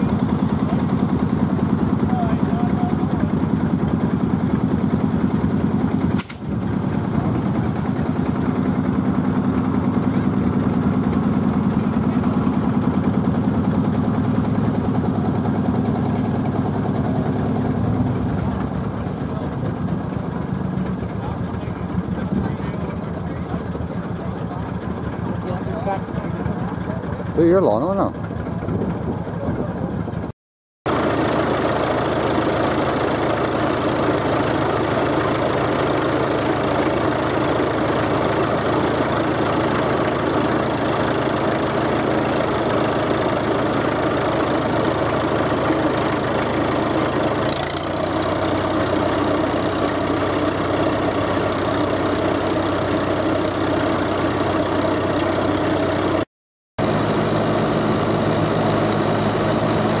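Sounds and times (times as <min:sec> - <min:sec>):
tractor engine running: 0:00.0 - 0:30.3, 0:30.9 - 1:00.0.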